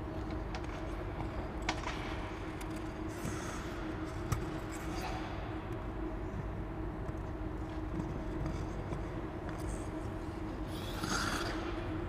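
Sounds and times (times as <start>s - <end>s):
low room hum with faint tone: 0.0s - 12.0s.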